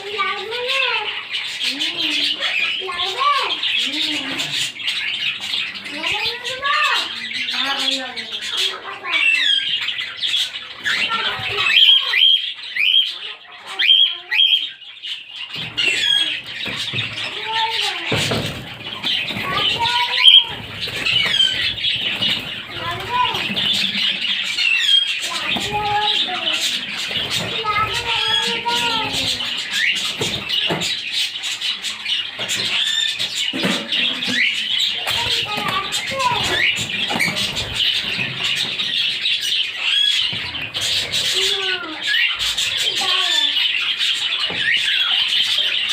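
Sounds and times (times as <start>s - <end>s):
birds chattering: 0.0s - 45.9s.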